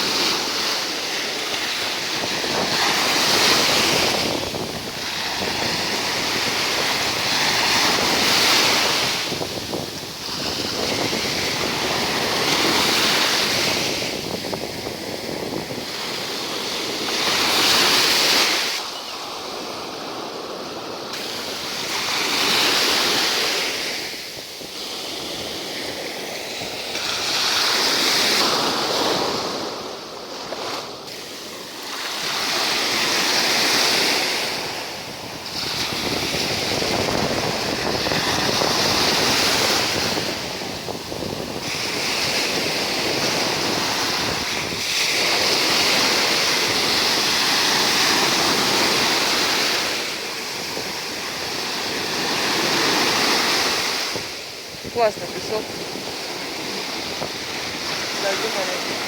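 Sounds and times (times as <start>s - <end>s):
sea waves washing ashore: 0.0s - 59.0s.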